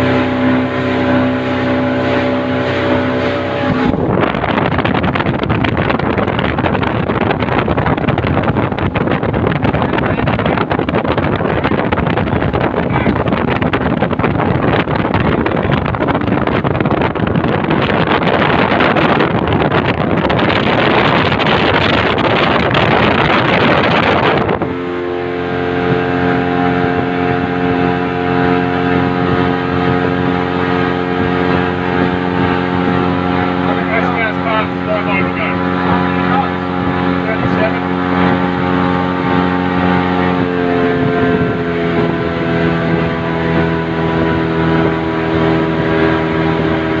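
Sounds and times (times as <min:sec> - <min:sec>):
outboard motor running: 0:00.0 - 0:47.0
rushing water: 0:00.0 - 0:47.0
wind buffeting microphone: 0:00.0 - 0:47.0.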